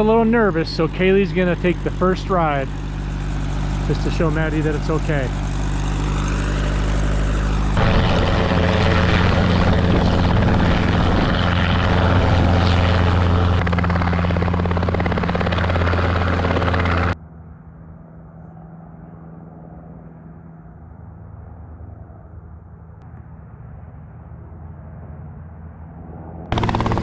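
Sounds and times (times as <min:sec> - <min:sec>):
helicopter rotor and engine hum: 0:00.0 - 0:27.0.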